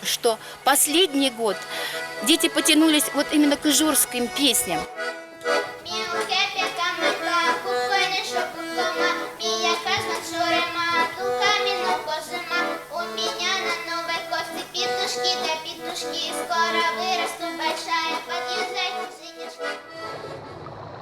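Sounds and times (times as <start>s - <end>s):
children singing folk song: 0.7s - 20.5s.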